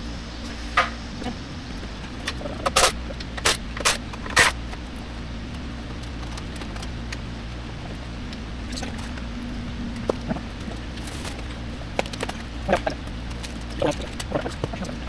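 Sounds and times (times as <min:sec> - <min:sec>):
steady low hum: 0:00.0 - 0:15.0
engine parts clinking: 0:00.8 - 0:15.0.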